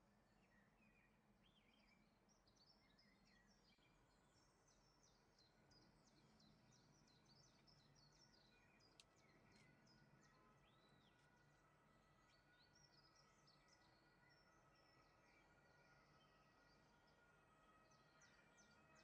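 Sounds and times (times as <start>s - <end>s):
faint birdsong chirps and trills: 0.0s - 19.0s.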